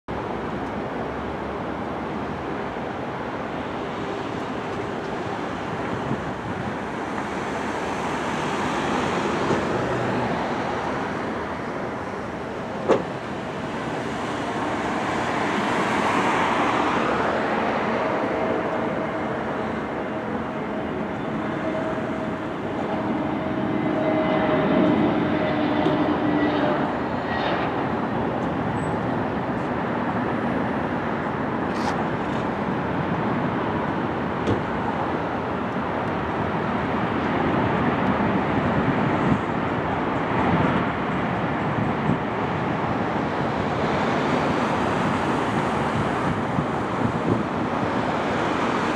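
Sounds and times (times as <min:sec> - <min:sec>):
jet engine rush: 0:00.1 - 0:48.9.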